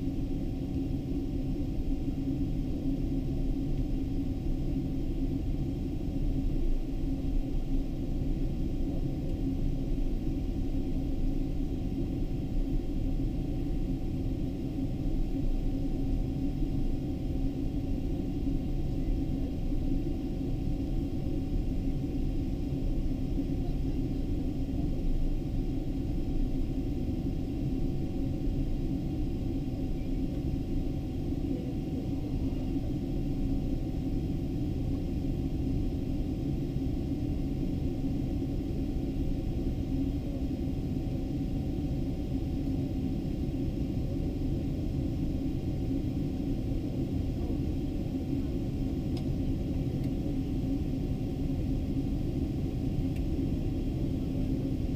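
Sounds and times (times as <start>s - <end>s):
airliner engines idling in cabin: 0.0s - 54.9s.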